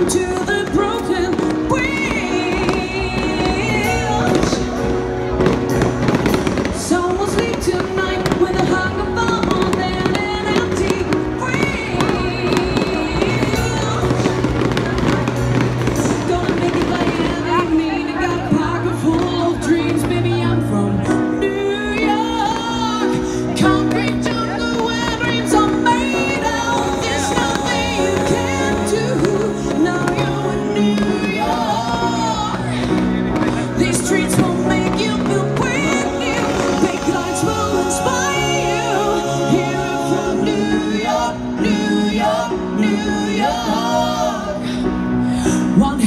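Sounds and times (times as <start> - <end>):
live rock band playing: 0.0 - 46.0
person singing lead vocal: 0.0 - 46.0.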